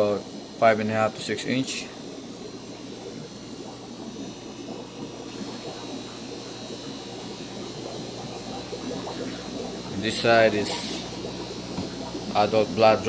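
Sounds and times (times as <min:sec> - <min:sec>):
aquarium bubbling water: 0:00.0 - 0:13.0.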